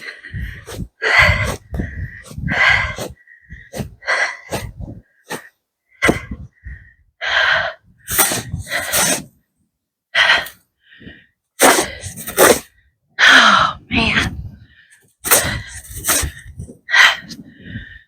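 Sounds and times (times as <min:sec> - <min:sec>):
person breathing hard: 0:00.0 - 0:09.3, 0:10.2 - 0:18.0.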